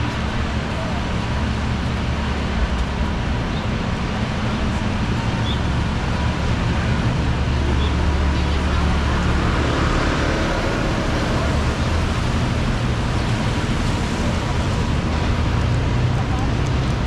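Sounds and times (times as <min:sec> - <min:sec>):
heavy vehicle engine rumble: 0:00.0 - 0:17.0
passing vehicles: 0:00.0 - 0:17.0.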